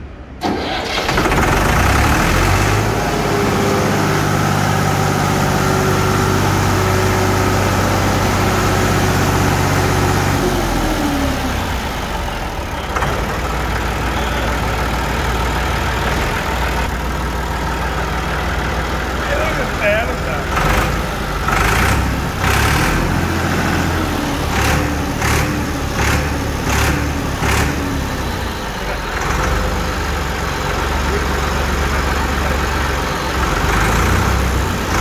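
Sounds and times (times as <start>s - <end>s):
tractor diesel engine idling: 0.0s - 35.0s.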